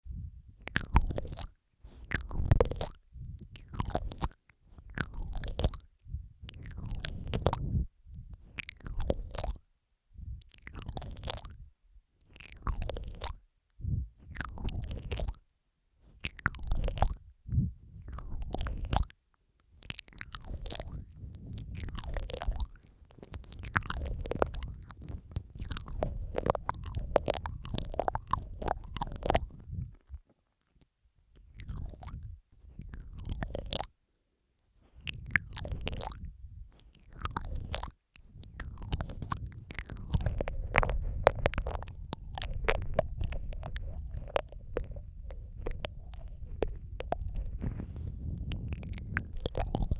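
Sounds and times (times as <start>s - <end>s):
wet mouth smacking and licking: 0.6s - 11.6s, 12.2s - 17.3s, 17.9s - 34.0s, 34.8s - 49.9s.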